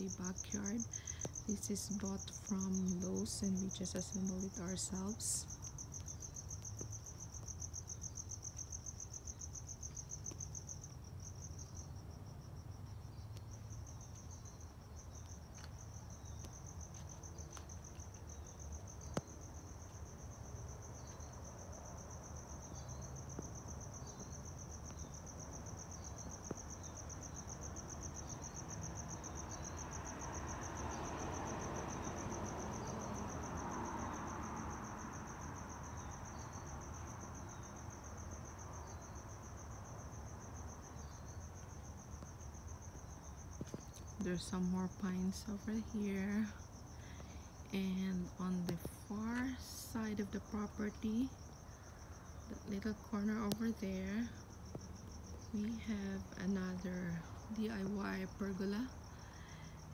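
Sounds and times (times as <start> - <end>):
cricket chirps: 0.0 - 59.9
crickets trilling: 0.0 - 59.9.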